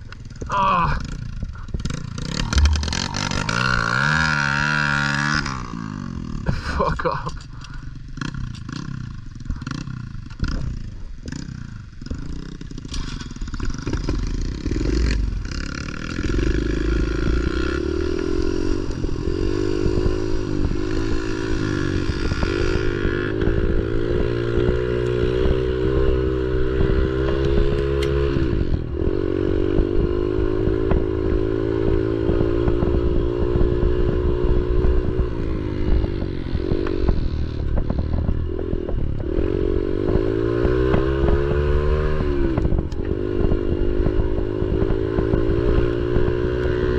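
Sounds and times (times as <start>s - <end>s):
pit bike engine running: 0.0s - 46.9s.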